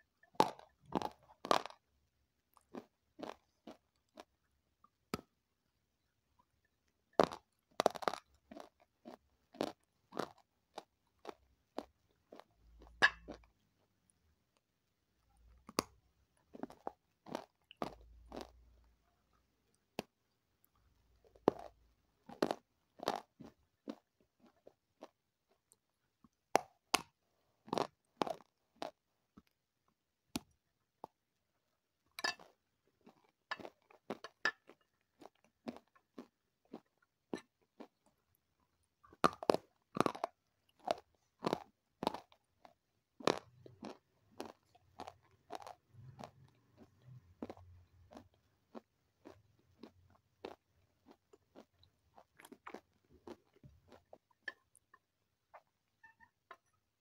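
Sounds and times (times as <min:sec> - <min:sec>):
crunchy food being chewed: 0:00.0 - 0:05.4, 0:06.0 - 0:57.0.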